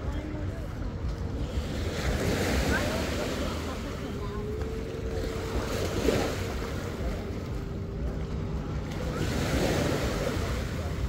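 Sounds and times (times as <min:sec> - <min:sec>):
waves washing on beach: 0:00.0 - 0:11.0.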